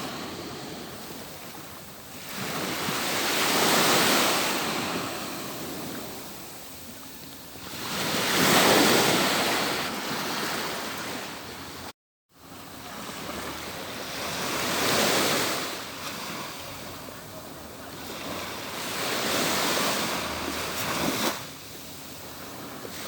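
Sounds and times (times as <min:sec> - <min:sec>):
surf waves breaking: 0:00.0 - 0:23.0.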